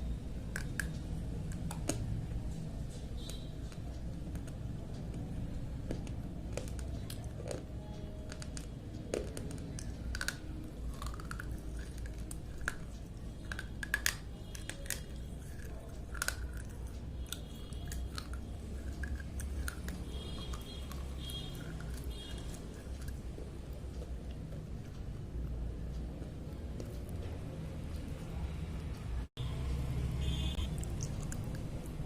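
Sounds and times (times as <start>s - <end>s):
slate pencils being chewed: 0.4s - 28.2s, 30.8s - 32.0s.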